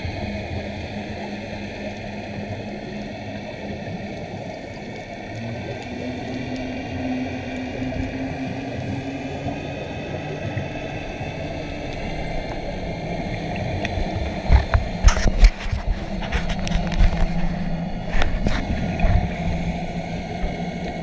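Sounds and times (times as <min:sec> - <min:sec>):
regulator exhaust bubbles gurgling: 0:00.0 - 0:21.0
steady underwater hum: 0:00.0 - 0:21.0.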